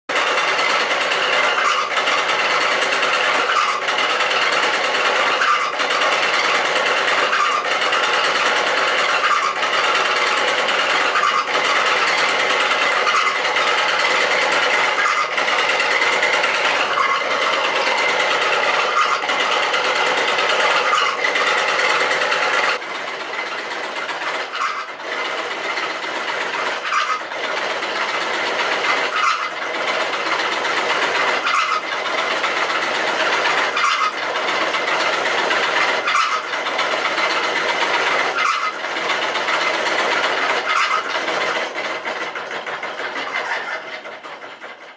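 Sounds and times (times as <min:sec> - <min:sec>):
mechanical whirring clatter: 0:00.1 - 0:44.9.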